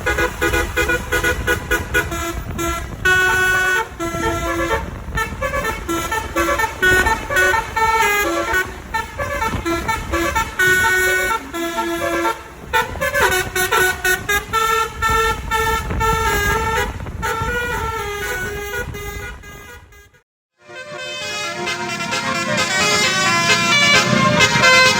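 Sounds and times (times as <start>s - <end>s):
bus multi-tone horn melody: 0.0s - 24.9s
bus rumble: 0.0s - 24.9s.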